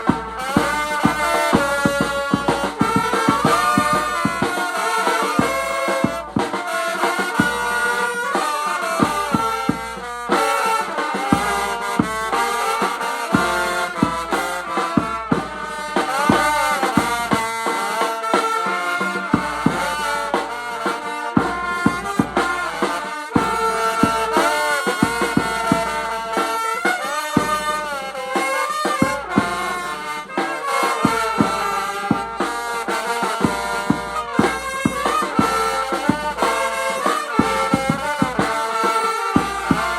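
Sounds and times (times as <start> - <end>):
drum beats: 0.0 - 39.9
wind instruments playing melody: 0.0 - 39.9.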